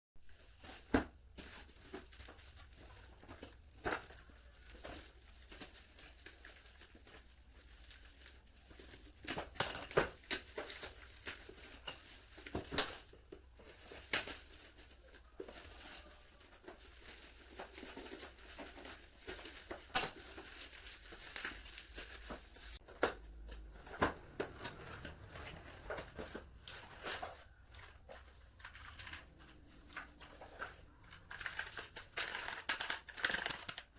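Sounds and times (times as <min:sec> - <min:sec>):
packaging crinkling and tearing: 0:01.8 - 0:33.9.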